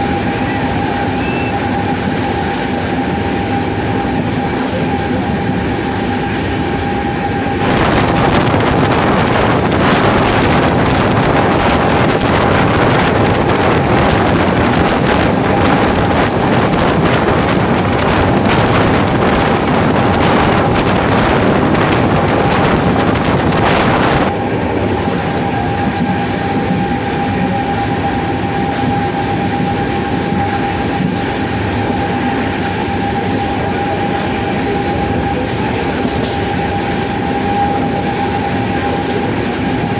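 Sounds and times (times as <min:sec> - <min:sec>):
traction motors whining: 0:00.0 - 0:39.9
wheel-on-rail noise: 0:00.0 - 0:39.9.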